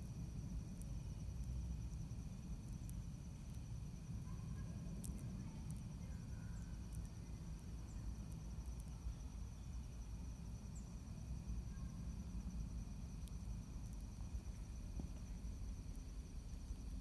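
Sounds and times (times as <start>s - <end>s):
pulsing insect trill: 0.0s - 17.0s.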